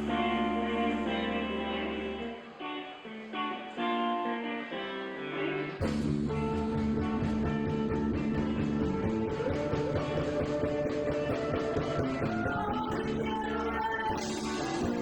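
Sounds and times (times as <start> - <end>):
rock band playing: 0.0 - 13.4, 14.1 - 15.0
guitar picking melody: 0.0 - 15.0.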